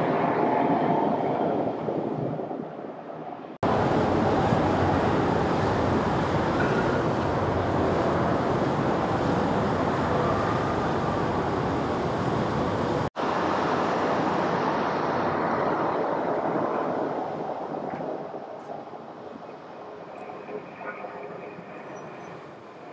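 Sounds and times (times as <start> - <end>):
jet engine rushing roar: 0.0 - 22.9.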